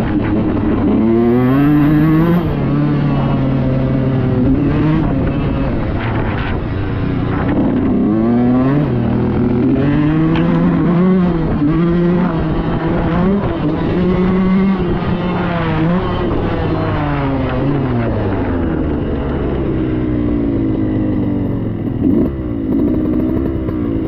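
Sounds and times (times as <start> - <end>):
dirt bike engine revving: 0.0 - 19.6, 20.4 - 24.0.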